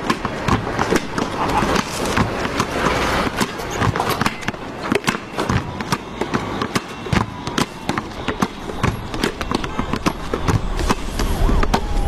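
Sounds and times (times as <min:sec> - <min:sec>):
basketball bouncing: 0:00.0 - 0:11.9
crowd noise: 0:00.0 - 0:12.0
sneaker squeaks: 0:00.8 - 0:12.0.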